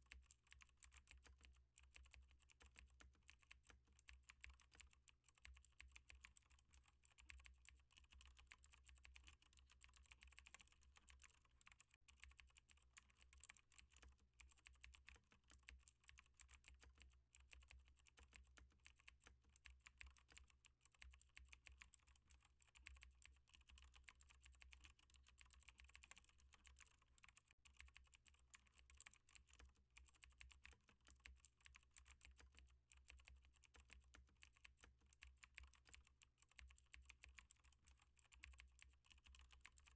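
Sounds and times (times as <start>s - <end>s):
faint keyboard typing: 0.0s - 39.9s.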